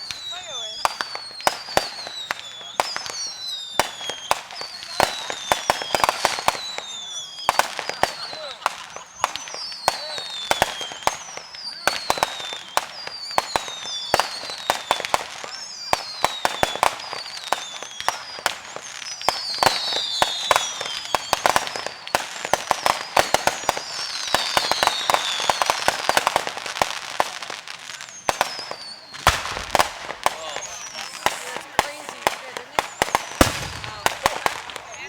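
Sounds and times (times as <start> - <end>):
fireworks bangs and crackling: 0.0 - 35.0
whistling fireworks falling in pitch: 0.0 - 35.0.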